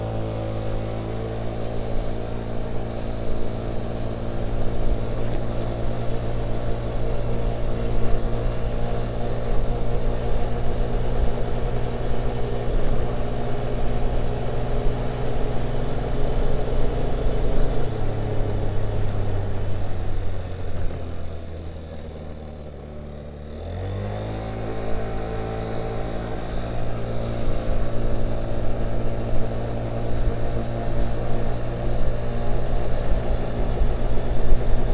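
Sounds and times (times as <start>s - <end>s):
motor scooter engine running: 0.0s - 34.9s.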